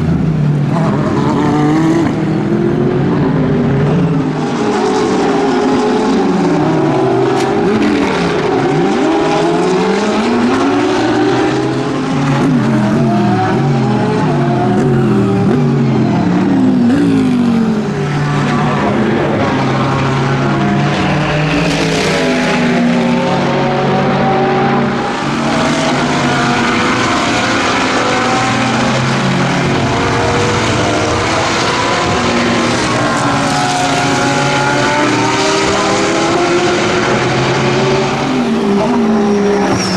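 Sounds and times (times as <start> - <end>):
race car engines passing: 0.0 - 39.9.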